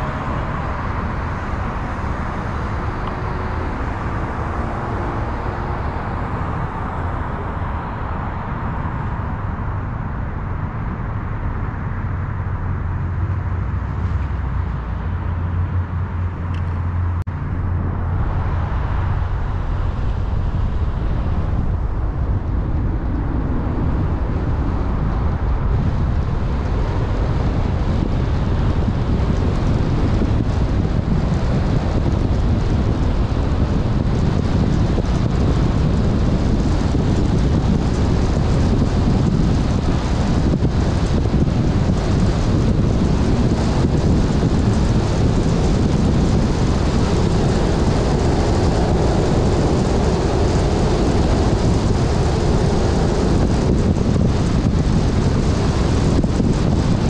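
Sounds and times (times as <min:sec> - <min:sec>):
car engine drone: 0:00.0 - 0:57.0
tyre and road noise: 0:00.0 - 0:57.0.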